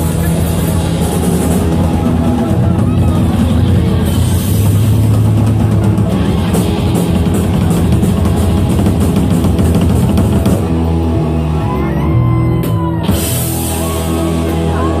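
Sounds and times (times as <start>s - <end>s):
busy drumming: 0.0s - 15.0s
loud rock music: 0.0s - 15.0s.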